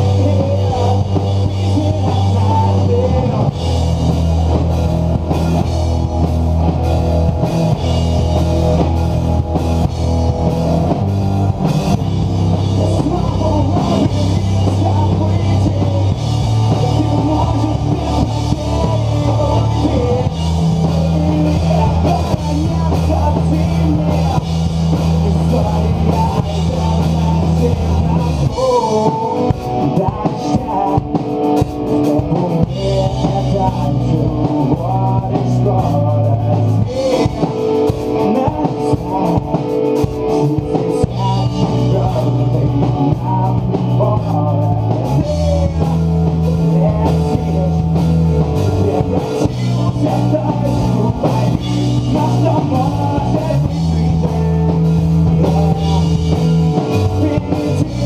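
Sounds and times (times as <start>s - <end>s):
held low notes: 0.0s - 58.0s
rock band playing live: 0.0s - 58.0s.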